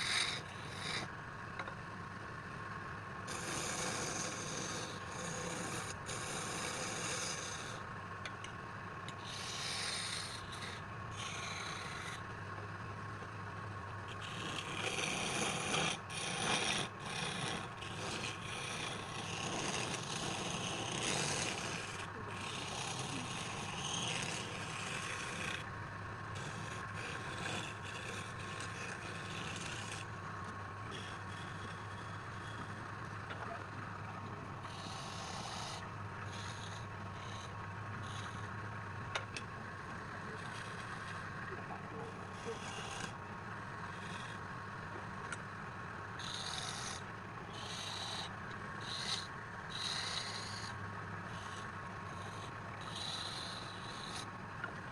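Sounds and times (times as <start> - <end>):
wood lathe humming: 0.0 - 1.7, 2.8 - 54.9
tool scraping spinning wood: 0.0 - 1.8, 3.2 - 13.3, 14.0 - 54.9.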